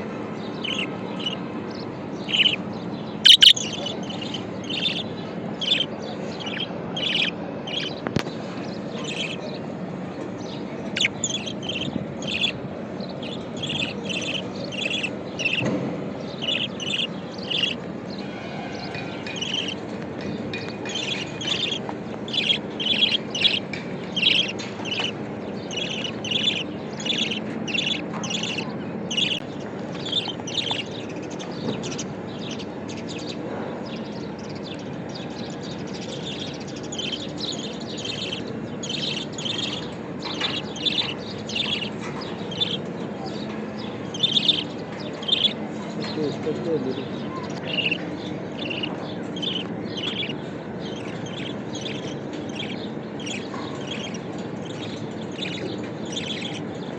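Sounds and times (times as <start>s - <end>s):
budgerigar chirping: 0.6s - 8.0s, 9.0s - 9.6s, 10.8s - 17.8s, 18.7s - 19.8s, 20.8s - 33.4s, 36.0s - 42.8s, 44.0s - 45.6s, 47.0s - 56.7s.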